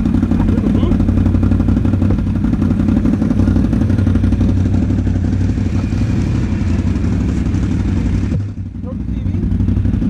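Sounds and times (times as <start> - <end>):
atv engine running: 0.0 - 10.0.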